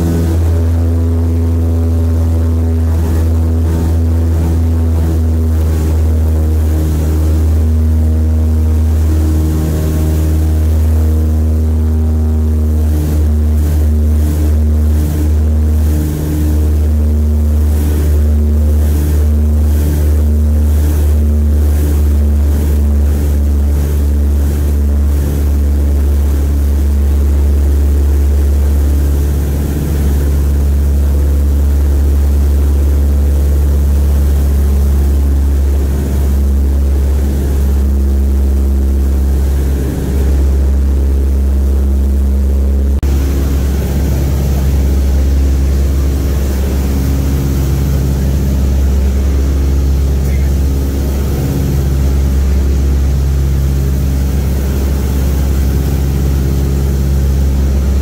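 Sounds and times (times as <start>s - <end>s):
aircraft radial engines droning: 0.0s - 58.0s.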